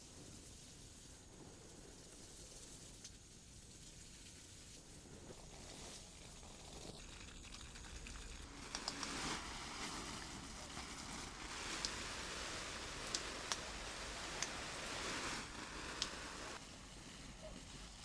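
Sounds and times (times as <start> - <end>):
hose water spraying on leaves: 0.0 - 18.0.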